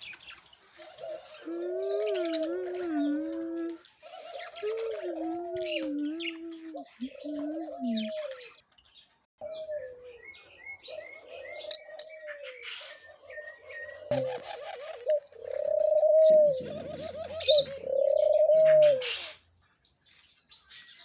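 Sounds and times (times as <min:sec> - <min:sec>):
small birds chirping: 0:00.0 - 0:21.0
doves cooing: 0:00.8 - 0:08.6, 0:09.4 - 0:19.4.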